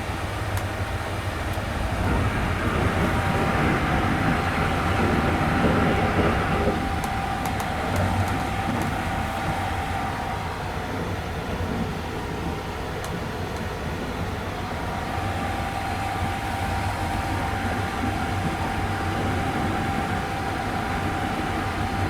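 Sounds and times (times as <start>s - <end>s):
train wheels rumbling on rail: 0.0s - 22.0s
thin steady whine: 0.8s - 12.6s, 13.9s - 22.0s.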